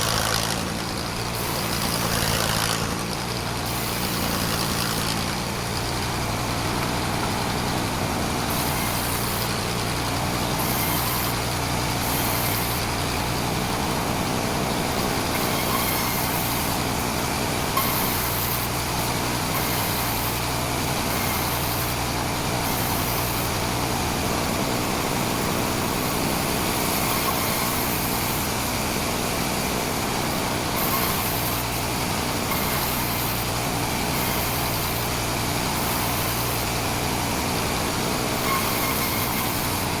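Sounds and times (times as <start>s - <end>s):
sawmill machinery drone: 0.0s - 40.0s.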